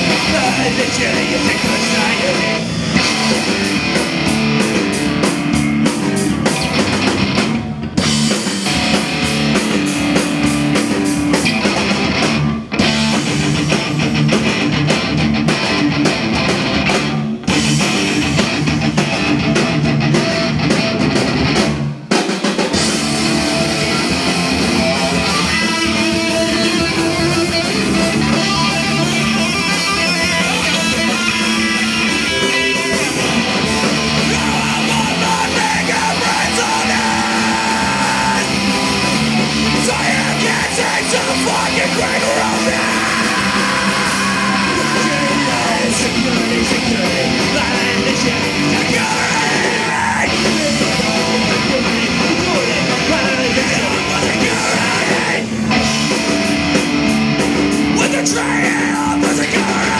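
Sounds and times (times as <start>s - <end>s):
distorted electric guitar: 0.0s - 59.9s
drum kit: 0.0s - 59.9s
electric bass: 0.0s - 59.9s.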